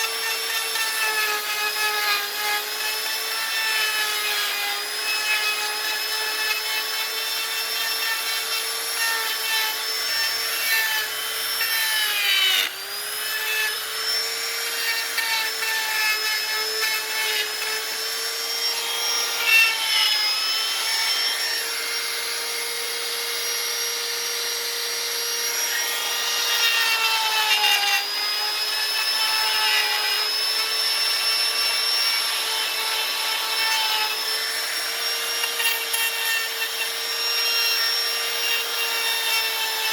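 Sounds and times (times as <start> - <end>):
power carving tool whining on wood: 0.0 - 39.9.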